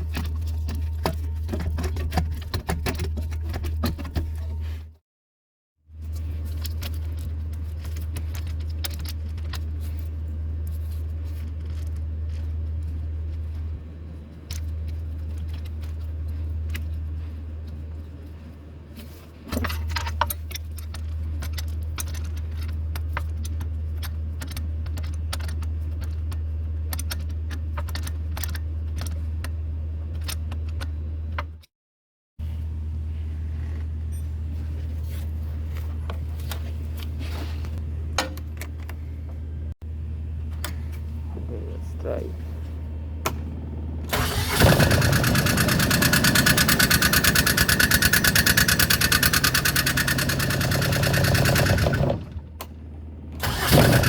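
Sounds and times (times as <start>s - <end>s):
steady low hum: 5.9s - 31.6s, 32.4s - 54.0s.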